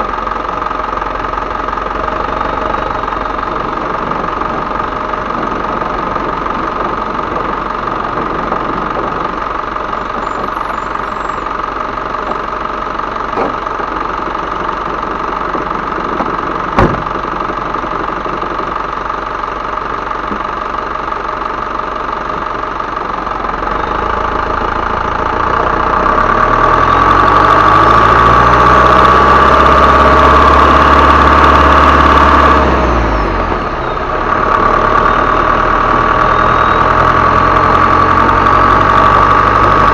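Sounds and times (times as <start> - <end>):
diesel truck engine with turbo whistle: 0.0 - 39.9.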